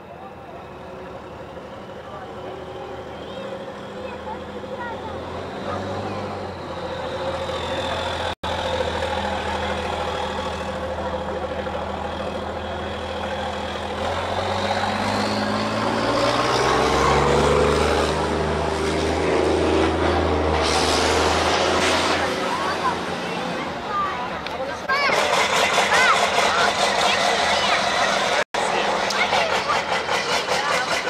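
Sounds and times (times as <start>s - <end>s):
diesel truck engine revving: 0.4s - 31.0s.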